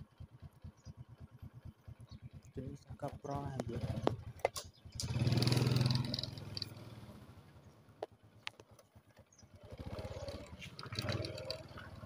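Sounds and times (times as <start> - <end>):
engine pulsing hum: 0.0 - 12.0.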